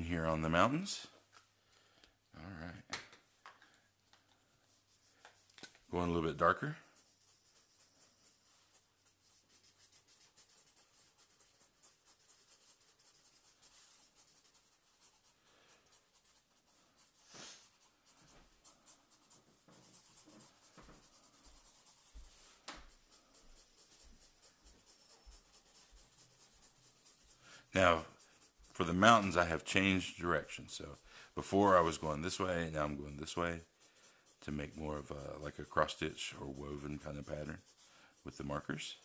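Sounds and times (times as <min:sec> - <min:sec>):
marker scratching on paper: 0:04.3 - 0:39.0.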